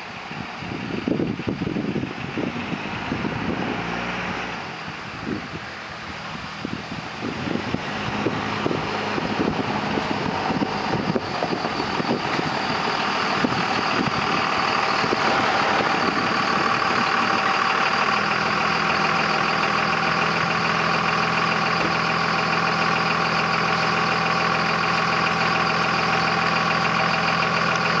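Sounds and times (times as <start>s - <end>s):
diesel truck engine: 0.0s - 28.0s.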